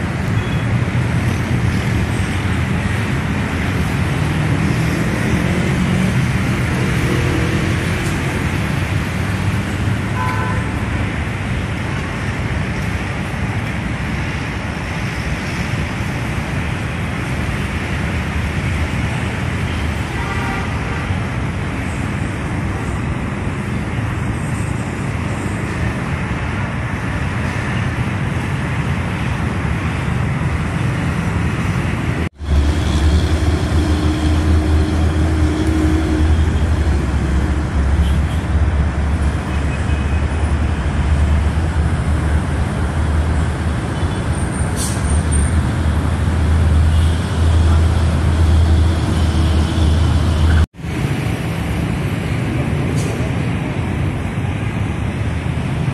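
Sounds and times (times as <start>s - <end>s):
city road traffic: 0.0s - 55.9s.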